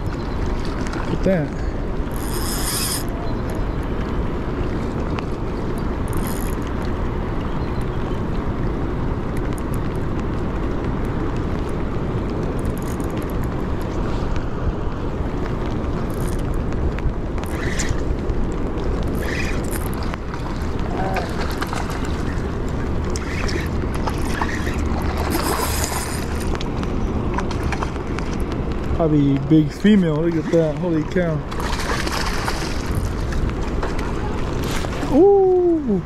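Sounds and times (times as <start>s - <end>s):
rain and wind rushing: 0.0s - 36.0s.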